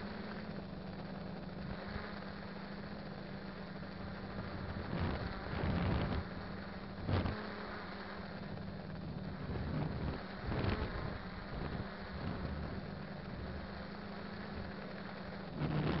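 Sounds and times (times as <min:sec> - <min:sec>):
drone motors humming: 0:00.0 - 0:16.0.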